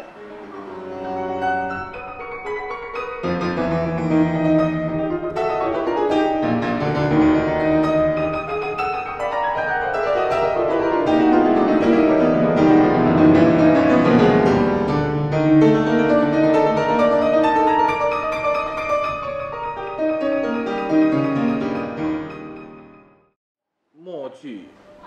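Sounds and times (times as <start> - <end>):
grand piano solo with quick runs: 0.0 - 23.3.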